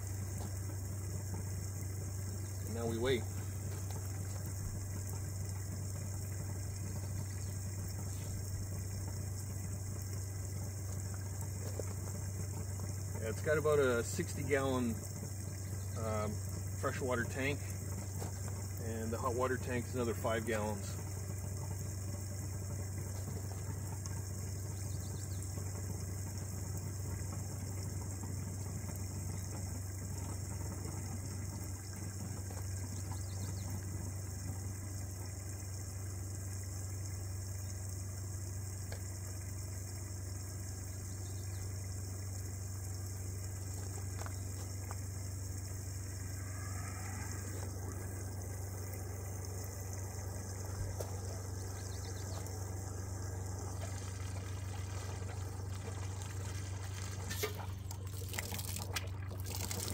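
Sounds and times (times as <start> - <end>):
steady low hum: 0.0 - 59.9
water running through a hose: 0.0 - 59.9.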